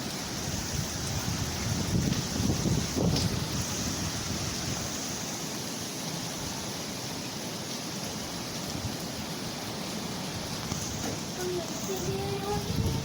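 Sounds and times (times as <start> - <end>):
hurricane wind and rain: 0.0 - 13.0.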